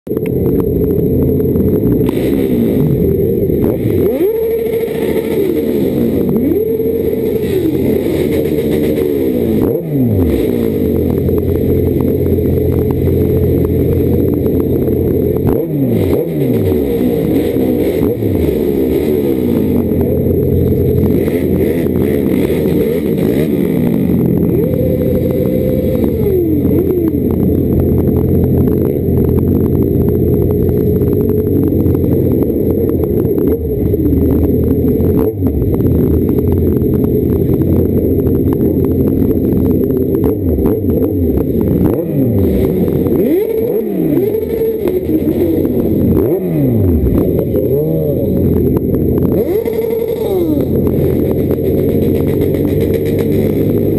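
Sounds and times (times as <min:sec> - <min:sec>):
motorcycle engines revving: 0:00.1 - 0:53.9.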